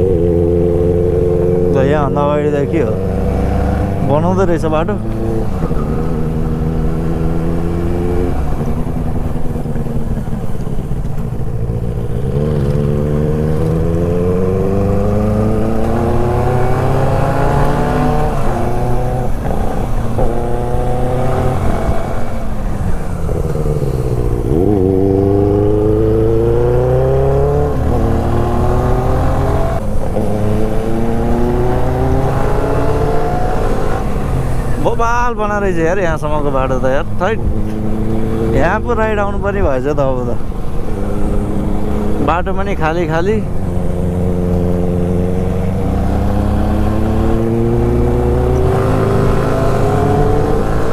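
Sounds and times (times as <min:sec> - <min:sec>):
motorcycle engine revving: 0:00.0 - 0:35.0, 0:35.6 - 0:50.9.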